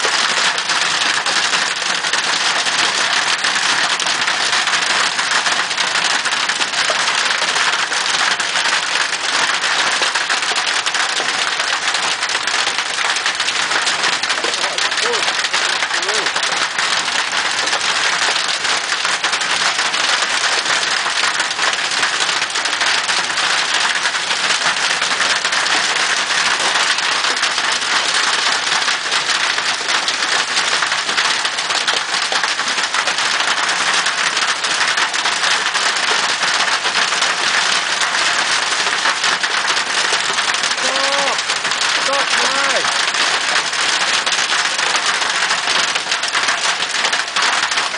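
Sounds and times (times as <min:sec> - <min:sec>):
hail and heavy rain pelting: 0:00.0 - 0:47.9.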